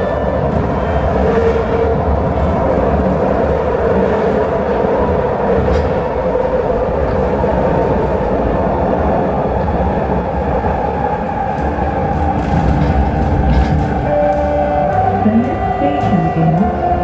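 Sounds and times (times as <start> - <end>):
train hum: 0.0 - 17.0
train rumble on track: 0.0 - 17.0.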